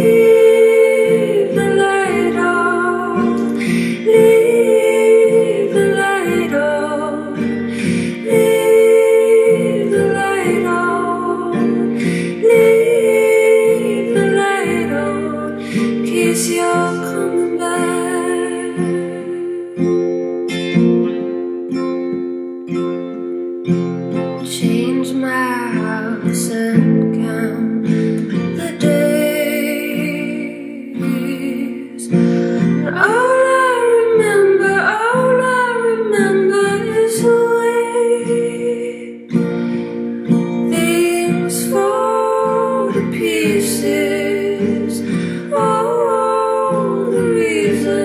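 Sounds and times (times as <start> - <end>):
woman singing: 0.0 - 20.2, 24.4 - 39.5, 40.1 - 48.0
acoustic guitar picking: 0.0 - 48.0.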